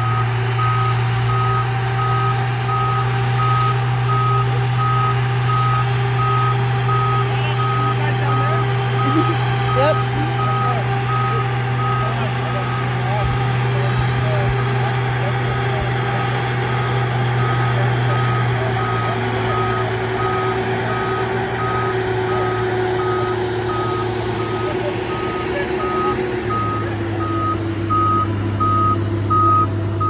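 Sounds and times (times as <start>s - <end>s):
reversing alarm beeps: 0.0s - 13.2s, 15.4s - 29.7s
diesel engine running: 0.0s - 30.0s.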